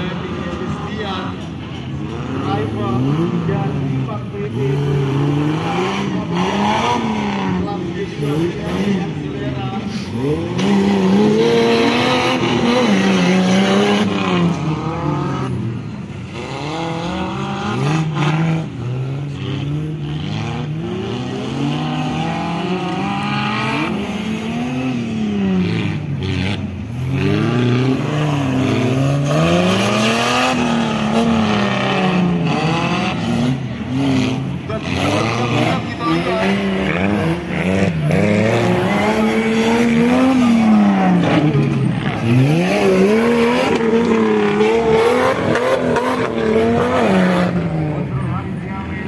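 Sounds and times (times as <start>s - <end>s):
buggy engine revving: 0.0s - 49.0s.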